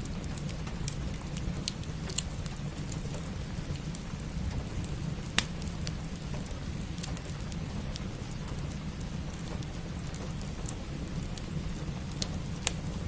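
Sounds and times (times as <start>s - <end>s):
fire pops: 0.0s - 13.0s
steady rain: 0.0s - 13.0s
wood fire crackling: 0.0s - 13.0s.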